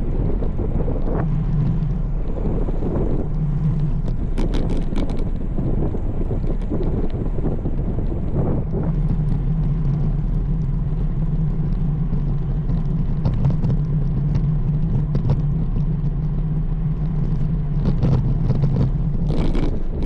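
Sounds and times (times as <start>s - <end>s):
road noise from bicycle: 0.0s - 20.0s
wind buffeting microphone: 0.0s - 20.0s
light clicks and rattles: 0.4s - 20.0s.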